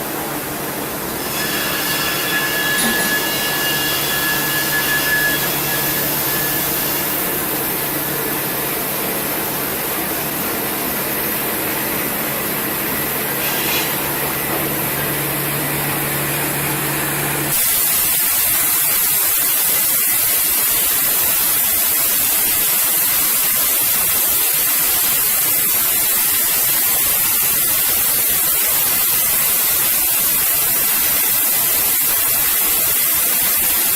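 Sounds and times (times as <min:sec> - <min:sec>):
machinery noise with steady tones: 0:00.0 - 0:33.9.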